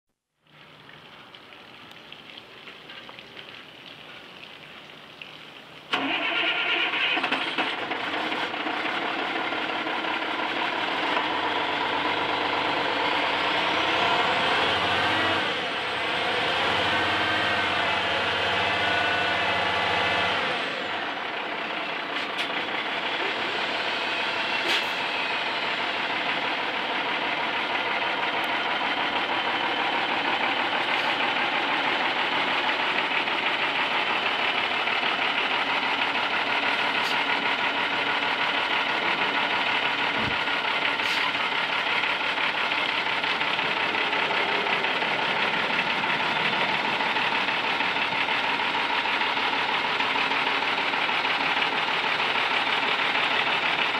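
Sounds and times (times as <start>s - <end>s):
truck engine cranking and starting: 5.9s - 53.9s
truck engine idling: 5.9s - 53.9s.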